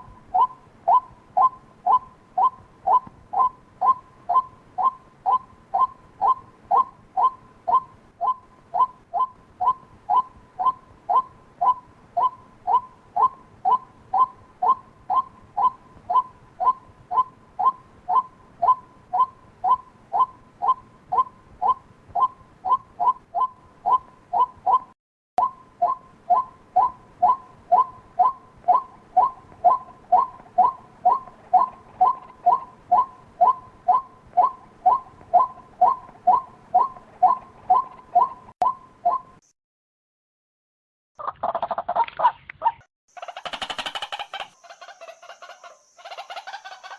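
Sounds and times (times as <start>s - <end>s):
waterhen calls: 0.0s - 39.4s, 41.2s - 46.9s.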